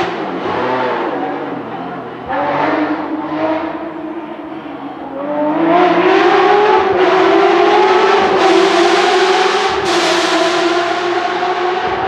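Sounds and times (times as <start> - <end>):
engine revving hard: 0.0 - 4.4, 5.2 - 12.0.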